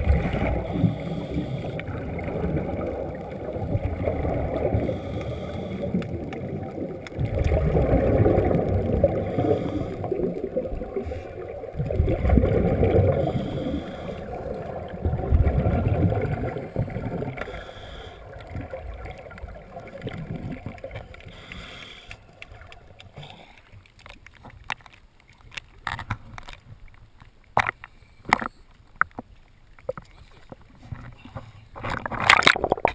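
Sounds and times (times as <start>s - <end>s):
underwater regulator bubbles: 0.0s - 24.4s, 30.8s - 32.9s
water splashing against camera: 0.0s - 32.9s.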